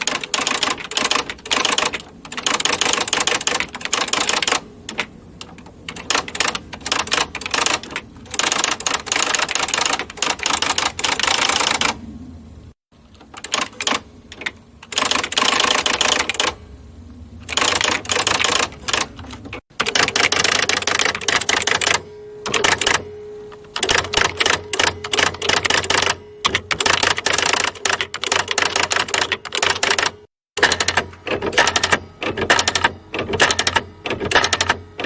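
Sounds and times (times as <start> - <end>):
electric typewriter typing: 0.0 - 12.0, 13.0 - 16.6, 17.4 - 23.1, 23.7 - 35.0
steady hum: 0.0 - 34.0.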